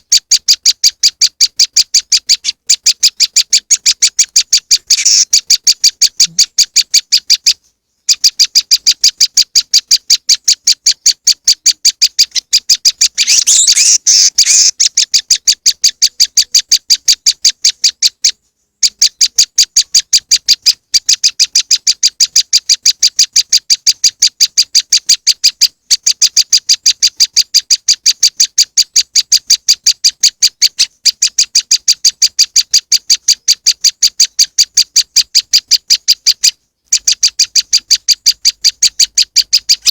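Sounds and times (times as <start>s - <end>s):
recorded bird lure call: 0.0s - 39.9s.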